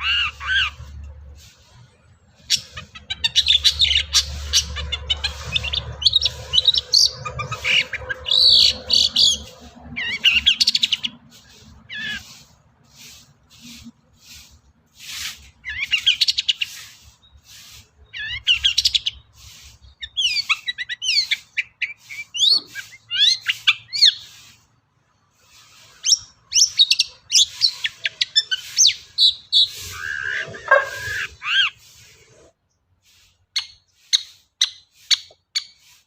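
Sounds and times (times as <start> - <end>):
bird chattering song: 0.0 - 24.7, 25.3 - 36.0.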